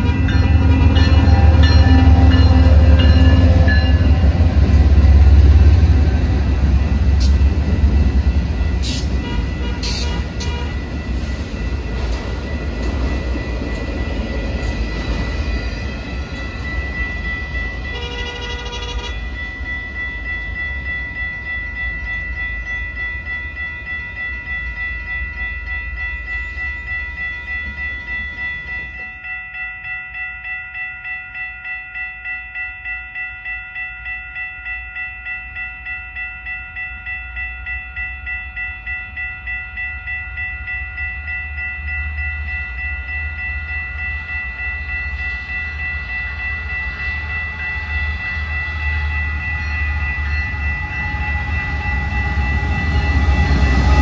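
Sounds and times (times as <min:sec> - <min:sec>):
crossing bells ringing: 0:00.0 - 0:54.0
freight train passing: 0:00.0 - 0:54.0.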